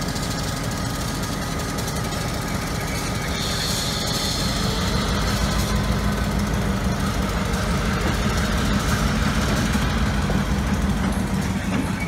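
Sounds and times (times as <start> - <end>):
diesel locomotive rolling past: 0.0 - 12.0.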